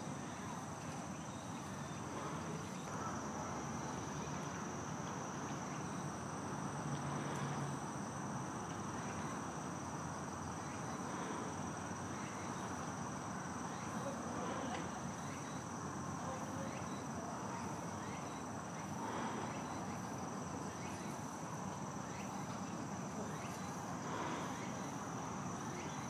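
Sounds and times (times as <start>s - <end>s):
high-pitched insect song: 0.0s - 11.1s, 11.7s - 26.0s
outdoor background hum: 0.0s - 26.0s.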